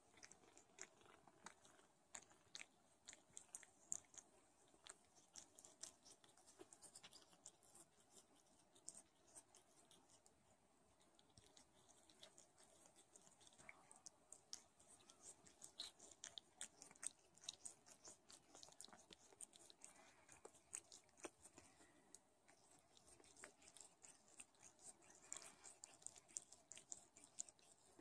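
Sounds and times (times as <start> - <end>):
cat licking kittens: 0.0 - 28.0.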